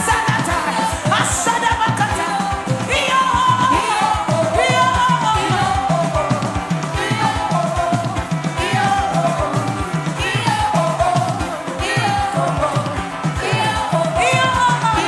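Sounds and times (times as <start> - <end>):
band playing worship music: 0.0 - 15.0
fast drum beat: 0.0 - 15.0
person singing: 0.0 - 15.0.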